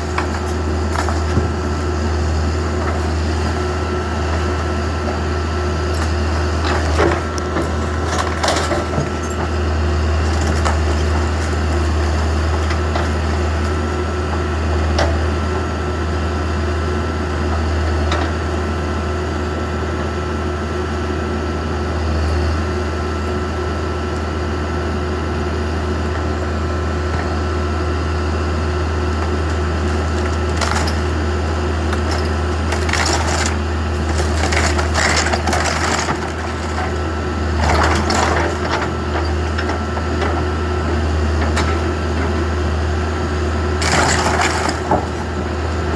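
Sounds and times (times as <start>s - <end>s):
backhoe engine whining: 0.0s - 45.9s.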